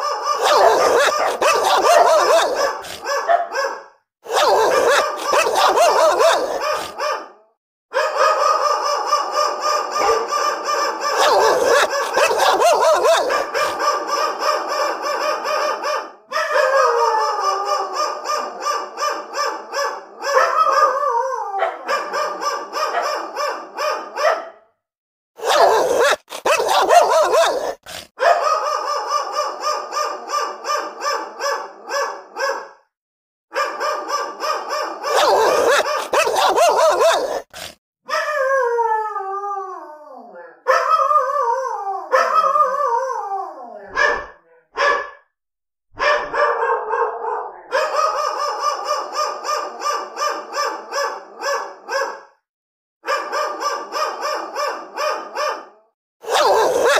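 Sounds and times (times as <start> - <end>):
dog whining yelps: 0.0 - 24.6, 25.4 - 32.8, 33.5 - 45.1, 46.0 - 52.4, 53.0 - 56.9
dogs barking angrily: 0.0 - 24.6, 25.4 - 32.9, 33.5 - 38.2, 40.6 - 41.2, 42.1 - 42.7, 43.9 - 45.2, 46.0 - 52.4, 53.0 - 56.9.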